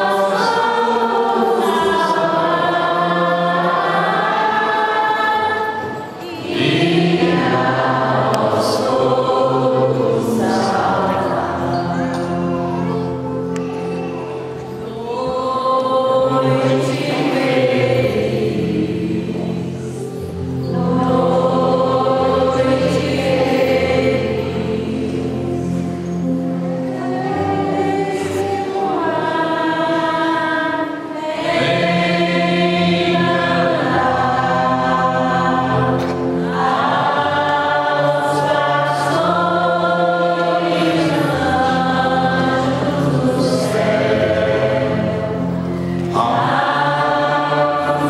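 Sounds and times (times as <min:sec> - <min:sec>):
choir singing long held chords: 0:00.0 - 0:48.0.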